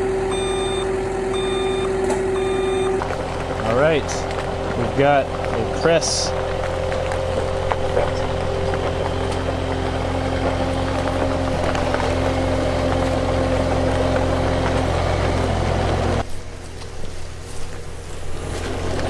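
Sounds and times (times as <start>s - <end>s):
vehicle engine idling: 0.0s - 16.8s.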